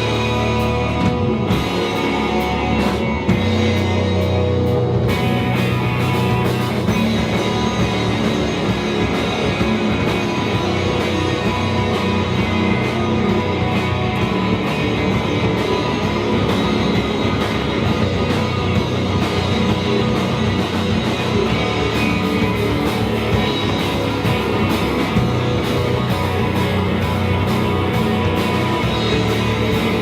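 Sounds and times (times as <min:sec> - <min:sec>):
drums with steady beat: 0:00.0 - 0:30.0
guitars: 0:00.0 - 0:30.0.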